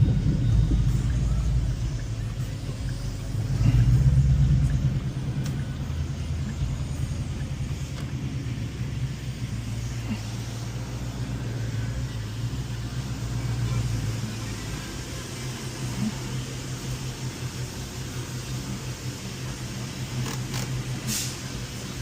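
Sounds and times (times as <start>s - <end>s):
car engine exhaust rumble: 0.0s - 22.0s.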